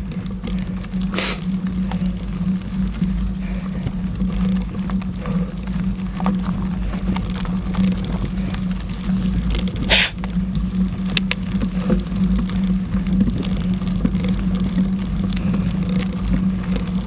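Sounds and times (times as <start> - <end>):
bike clicks and rattles: 0.0 - 17.0
bike rolling on dirt trail: 0.0 - 17.0.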